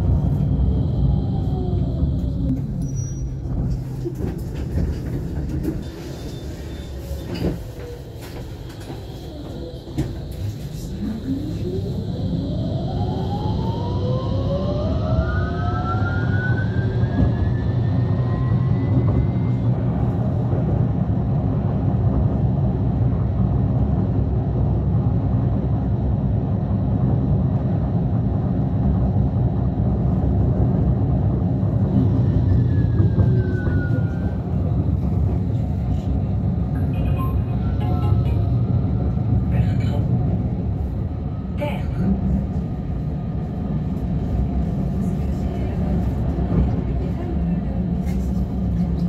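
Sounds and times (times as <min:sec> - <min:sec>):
tram drive whining: 0:00.0 - 0:49.0
wheels rumbling on rail: 0:00.0 - 0:49.0.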